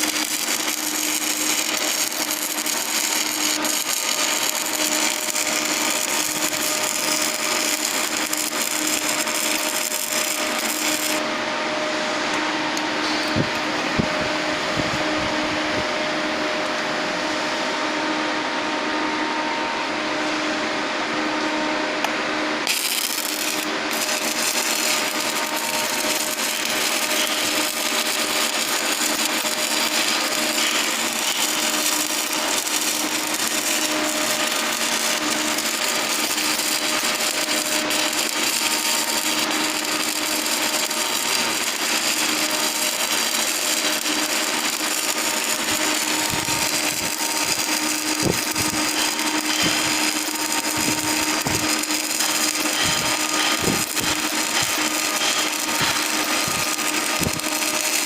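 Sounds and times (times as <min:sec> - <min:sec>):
welding hiss: 0:00.0 - 0:11.3, 0:22.6 - 0:58.0.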